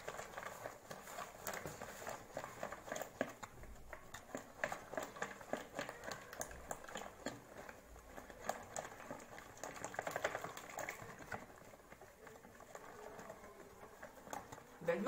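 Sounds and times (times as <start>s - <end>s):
whisk beating batter in bowl: 0.0s - 15.0s.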